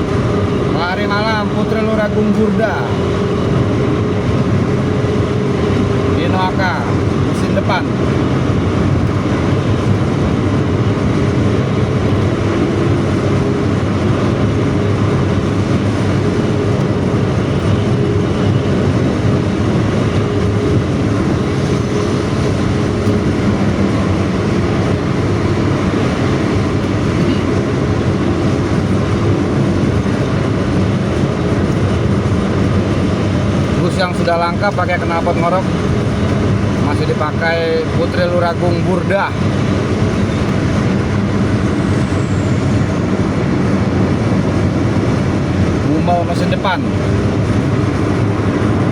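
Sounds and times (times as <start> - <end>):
bus engine rough exhaust drone: 0.0 - 48.9.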